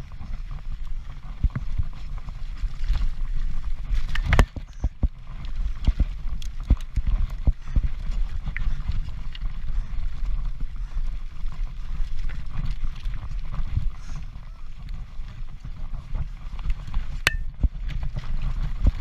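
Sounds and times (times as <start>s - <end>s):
mountain bike rattling over trail: 0.0s - 19.0s
wind rumble on microphone: 0.0s - 19.0s.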